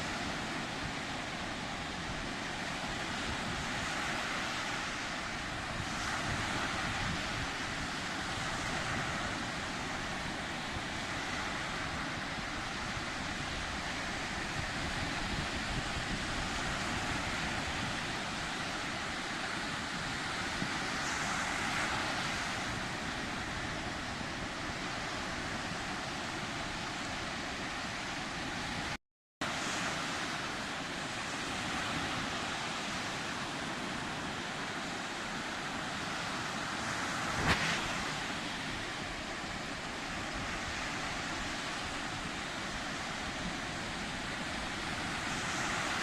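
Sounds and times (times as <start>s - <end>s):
waves breaking: 0.0s - 46.0s.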